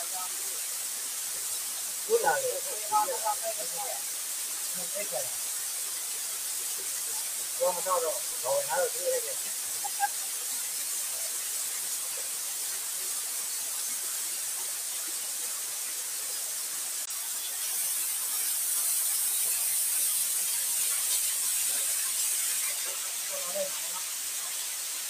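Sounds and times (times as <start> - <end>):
waterfall splashing on rock: 0.0 - 25.0.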